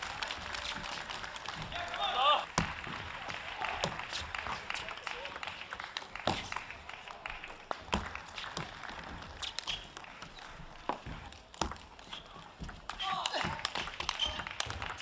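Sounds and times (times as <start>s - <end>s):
scattered applause: 0.0s - 15.0s.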